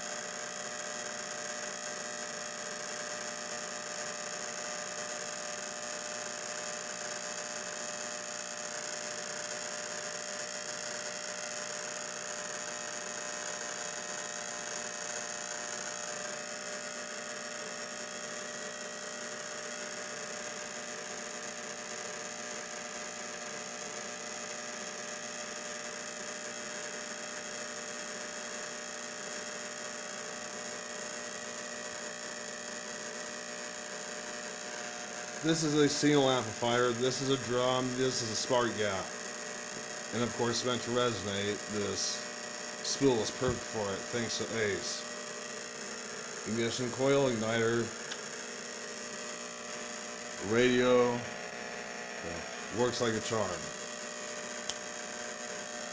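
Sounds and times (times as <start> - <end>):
electrical hum and static hiss: 0.0 - 55.9.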